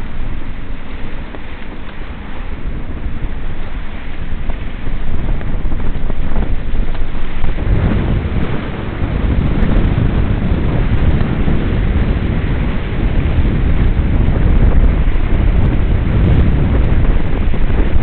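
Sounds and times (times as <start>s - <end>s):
water rushing along hull: 0.0s - 18.0s
wind buffeting microphone: 0.0s - 18.0s.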